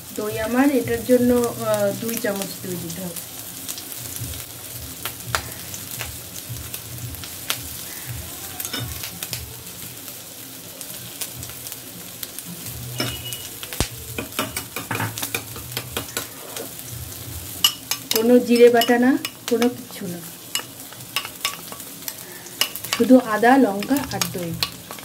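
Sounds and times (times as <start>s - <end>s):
fish sizzling in oil: 0.0s - 25.0s.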